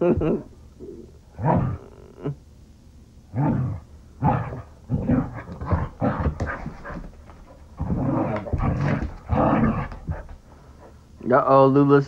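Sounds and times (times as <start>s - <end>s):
dogs growling: 0.0s - 2.4s, 3.3s - 11.0s.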